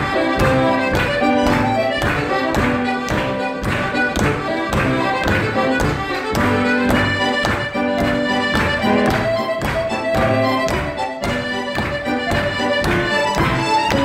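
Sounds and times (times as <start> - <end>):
button accordion playing a tune: 0.0 - 14.0.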